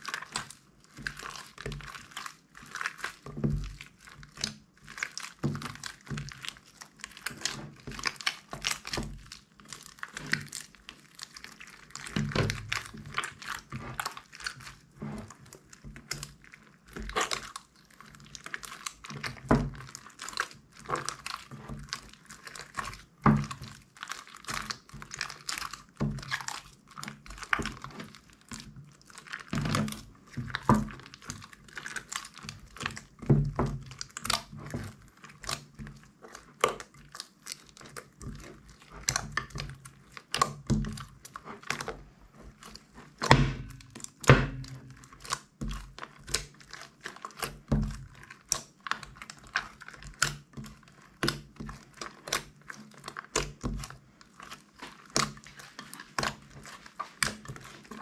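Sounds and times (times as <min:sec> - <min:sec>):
slime squelching: 0:00.0 - 0:58.0.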